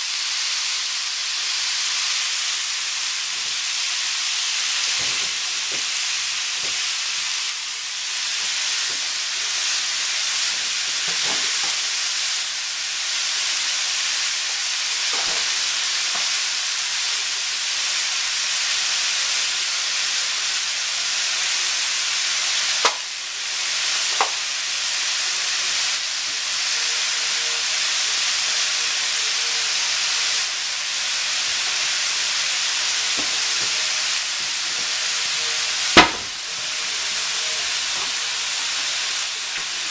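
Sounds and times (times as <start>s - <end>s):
meat and vegetables sizzling in oil: 0.0s - 39.9s.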